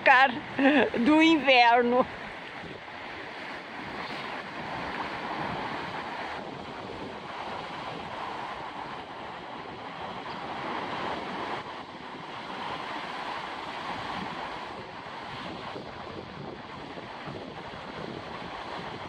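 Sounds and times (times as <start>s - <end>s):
ocean surf breaking: 0.0s - 19.0s
wind on microphone: 0.0s - 19.0s.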